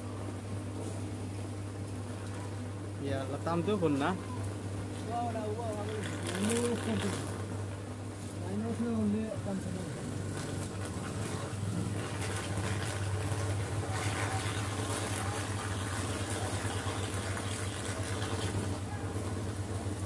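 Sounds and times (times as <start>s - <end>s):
electrical arc buzzing and crackling: 0.0s - 20.0s.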